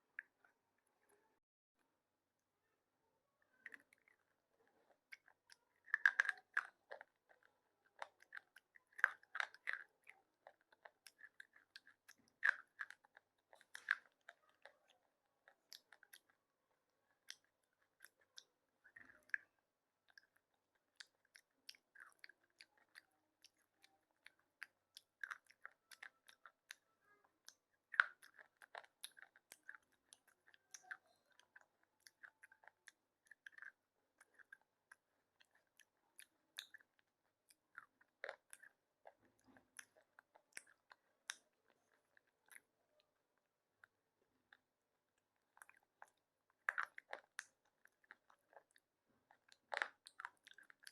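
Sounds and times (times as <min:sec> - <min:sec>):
person chewing crunchy pencil: 0:03.5 - 0:50.9.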